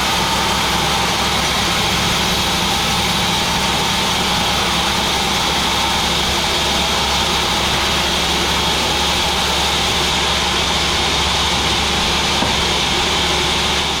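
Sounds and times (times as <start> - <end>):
sawmill machinery humming: 0.0 - 14.0.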